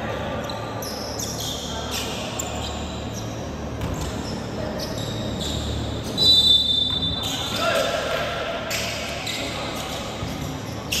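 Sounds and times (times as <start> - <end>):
sneakers squeaking: 0.0 - 11.0.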